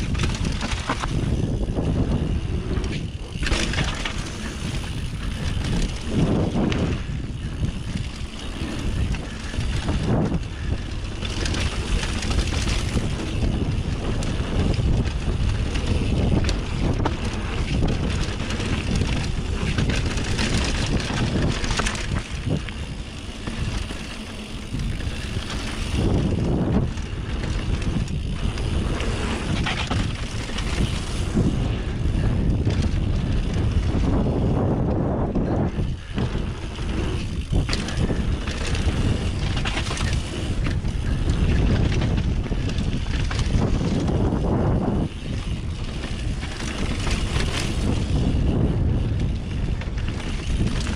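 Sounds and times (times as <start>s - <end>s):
bike knocking and rattling: 0.0s - 50.9s
bike tyres rolling over dirt: 0.0s - 50.9s
wind on microphone: 0.0s - 50.9s.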